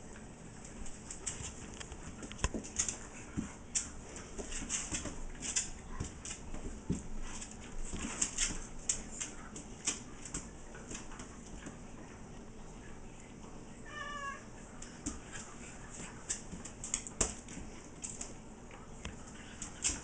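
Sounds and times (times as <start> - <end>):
animals scuffling: 0.0 - 13.4, 14.4 - 20.0.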